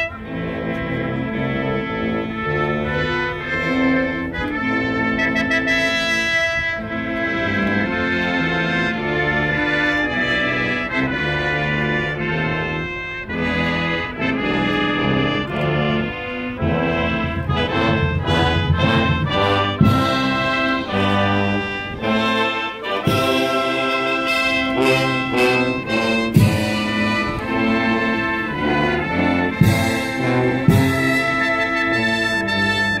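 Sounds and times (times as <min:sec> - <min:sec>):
military brass band playing: 0:00.0 - 0:33.0.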